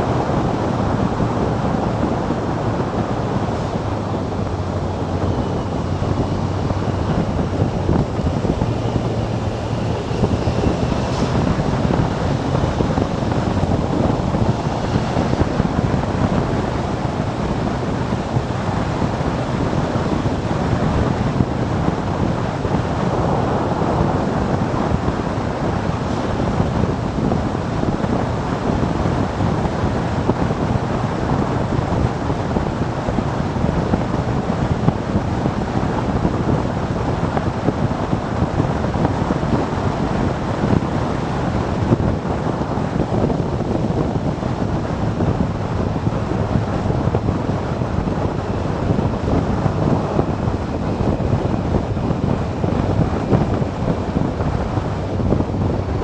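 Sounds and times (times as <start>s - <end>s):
motorcycle engine drone: 0.0s - 56.0s
wind rushing over microphone: 0.0s - 56.0s.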